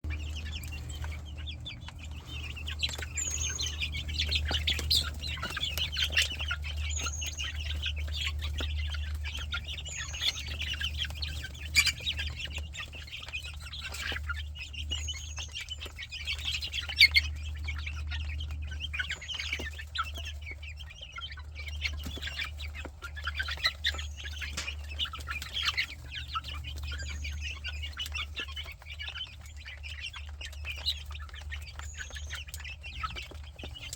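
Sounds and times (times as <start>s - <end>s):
chickens clucking: 0.0s - 33.9s.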